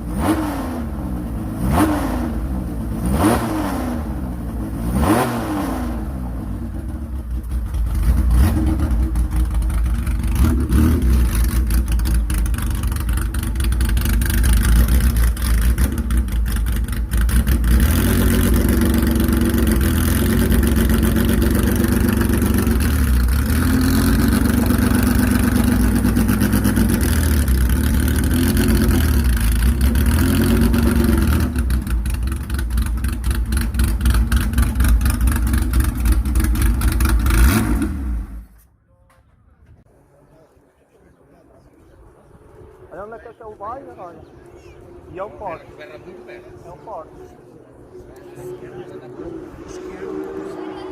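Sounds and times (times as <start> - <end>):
rally car engine revving: 0.0 - 38.6, 44.6 - 50.9.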